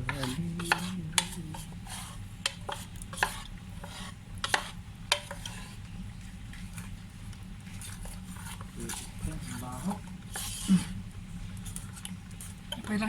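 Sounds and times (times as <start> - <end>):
steady low hum: 0.0 - 13.0
utensil stirring and scraping pot: 0.0 - 13.0.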